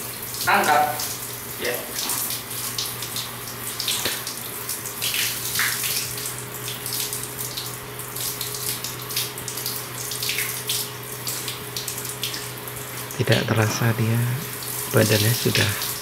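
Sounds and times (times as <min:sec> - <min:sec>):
steady low hum: 0:02.2 - 0:16.0.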